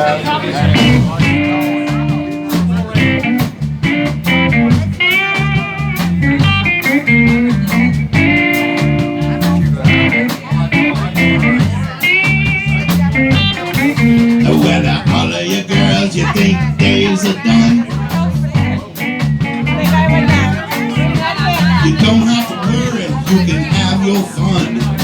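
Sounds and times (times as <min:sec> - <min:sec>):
bass guitar: 0:00.5 - 0:25.0
electric guitar lead with bent notes: 0:00.6 - 0:25.0
steady drum beat: 0:00.6 - 0:25.0.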